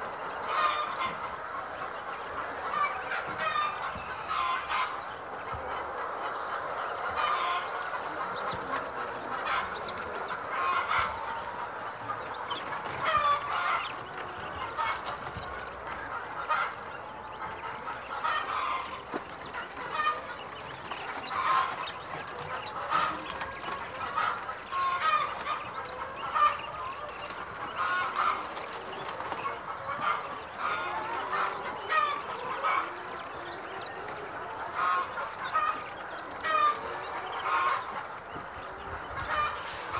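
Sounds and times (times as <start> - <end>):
dense chatter of birds: 0.0 - 39.9
quail calling: 0.0 - 39.9.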